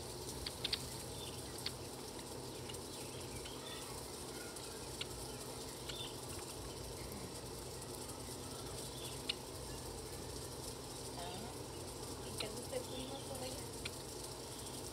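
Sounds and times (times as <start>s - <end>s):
small birds chip notes: 0.0s - 14.9s.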